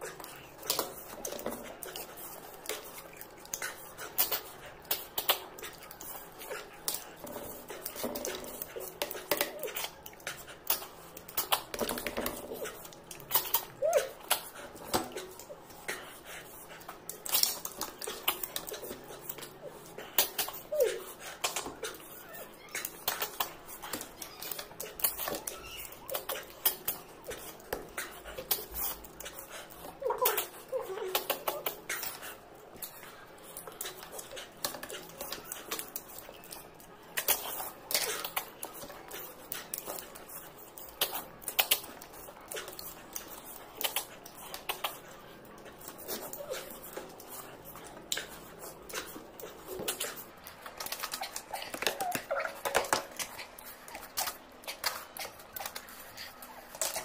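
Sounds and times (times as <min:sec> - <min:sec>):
chewing and lip smacking: 0:00.0 - 0:57.0.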